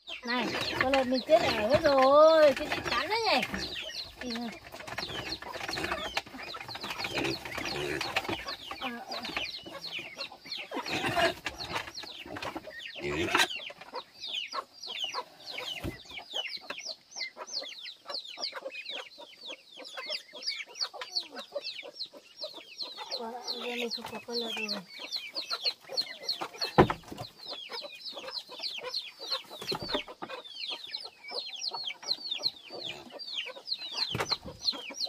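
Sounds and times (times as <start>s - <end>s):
chicken calls: 0.0s - 35.0s
chicks peeping: 0.0s - 35.0s.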